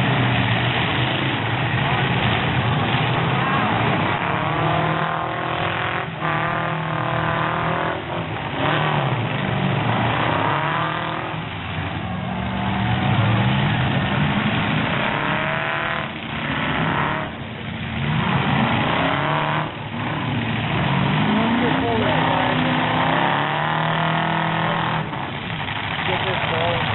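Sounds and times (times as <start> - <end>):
truck engines revving: 0.0 - 26.9.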